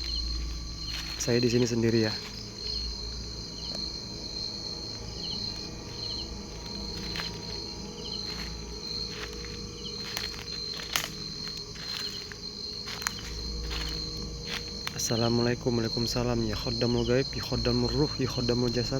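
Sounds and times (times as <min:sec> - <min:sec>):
crickets chirring: 0:00.0 - 0:18.9
faint insect chirps: 0:00.0 - 0:18.9.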